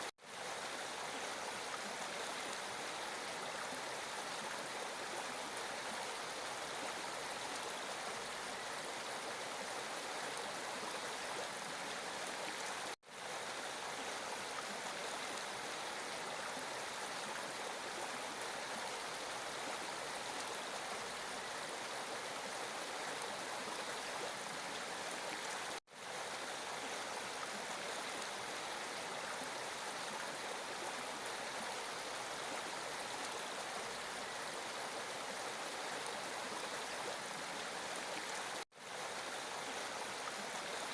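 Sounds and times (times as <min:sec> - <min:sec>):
water flowing steadily: 0:00.0 - 0:40.9.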